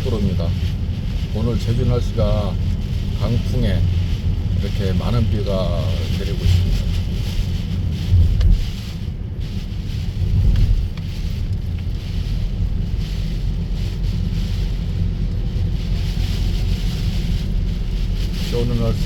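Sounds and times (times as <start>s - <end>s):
heavy rain: 0.0s - 19.0s
wind buffeting the microphone: 0.0s - 19.0s.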